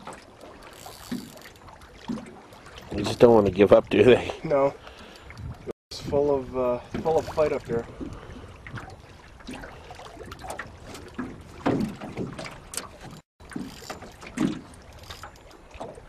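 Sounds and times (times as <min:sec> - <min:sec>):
water splashing around boat: 0:00.0 - 0:16.0.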